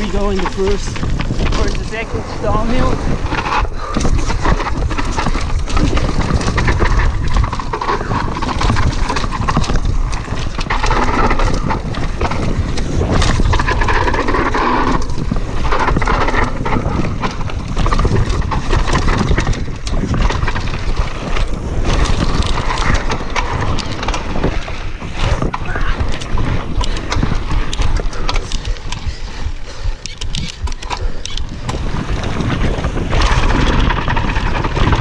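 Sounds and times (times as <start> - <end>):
bike knocks and rattles: 0.0 - 35.0
tyres rolling over dirt and rock: 0.0 - 35.0
wind buffeting microphone: 0.0 - 35.0.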